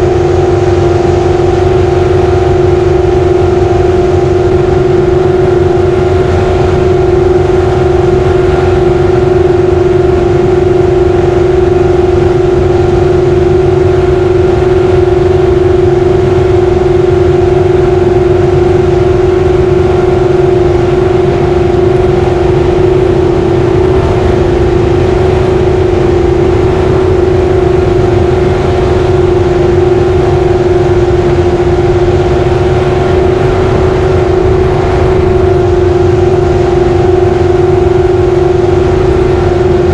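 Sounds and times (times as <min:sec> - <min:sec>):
jet boat engine running hard: 0:00.0 - 0:39.9.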